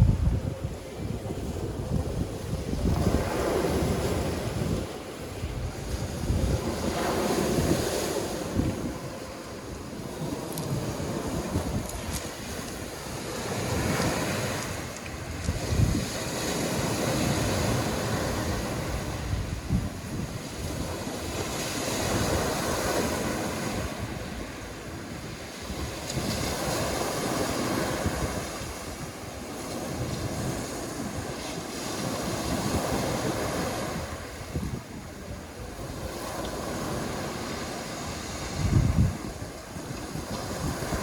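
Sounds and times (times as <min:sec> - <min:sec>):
sea waves washing on shore: 0:00.0 - 0:41.0
wind buffeting microphone: 0:00.0 - 0:41.0.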